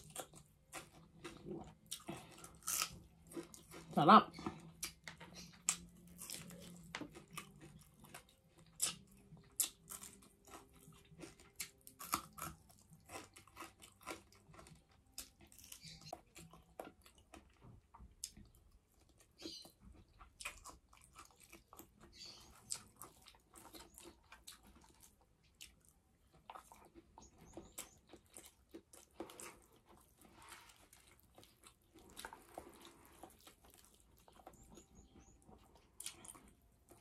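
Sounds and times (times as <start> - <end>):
chewing and mouth smacking: 0.0 - 37.0.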